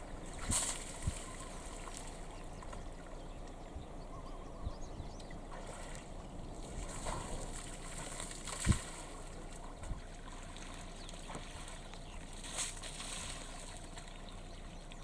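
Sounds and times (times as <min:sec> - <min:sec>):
water sloshing and trickling: 0:00.0 - 0:03.8, 0:05.2 - 0:15.0.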